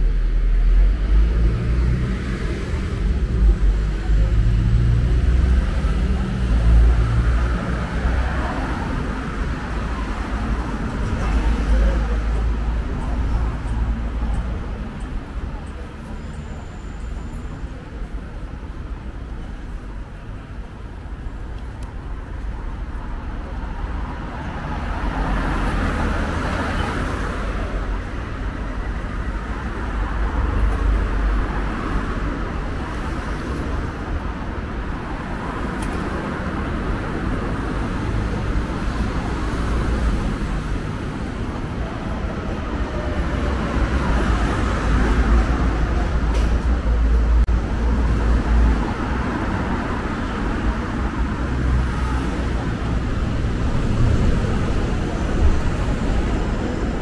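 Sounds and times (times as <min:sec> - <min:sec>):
rumble of passing cars: 0:00.0 - 0:57.0.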